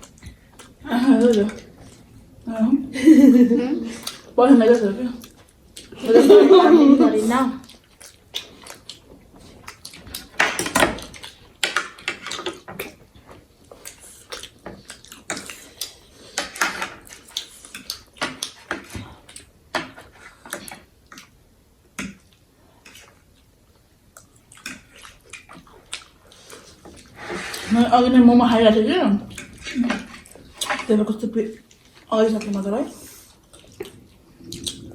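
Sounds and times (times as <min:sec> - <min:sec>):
wet noodle eating noises: 0:03.8 - 0:10.4, 0:11.0 - 0:34.9.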